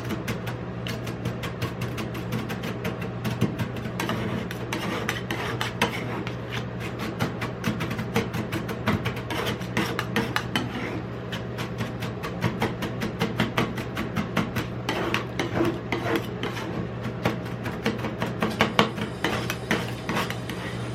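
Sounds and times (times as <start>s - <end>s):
metal spatulas chopping on steel: 0.0s - 20.6s
steady low hum: 0.0s - 20.9s.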